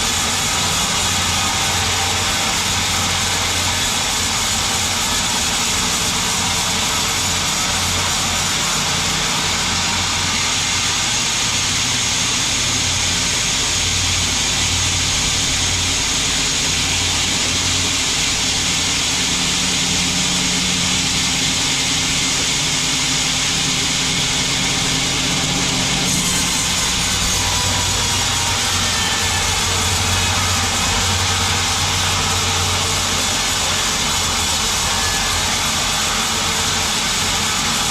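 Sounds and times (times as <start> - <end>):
saw cutting hiss: 0.0 - 37.9
sawmill machine hum: 0.0 - 37.9.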